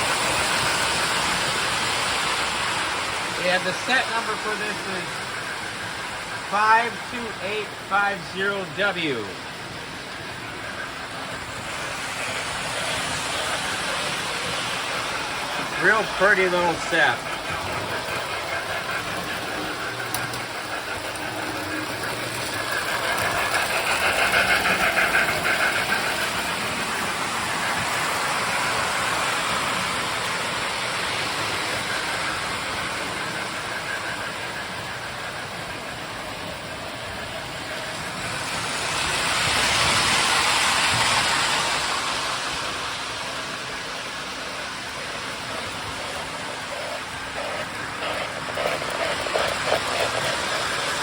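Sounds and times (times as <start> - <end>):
toy trains running on track: 0.0 - 51.0.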